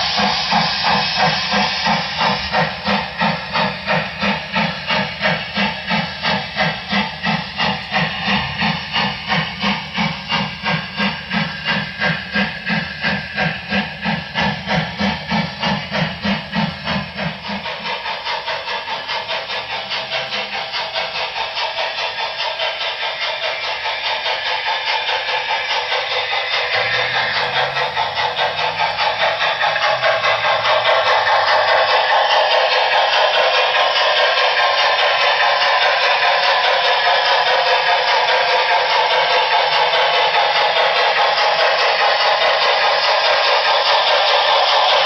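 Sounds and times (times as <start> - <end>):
model steam locomotive chuffs: 0.0 - 45.0
steam hiss: 0.0 - 45.0.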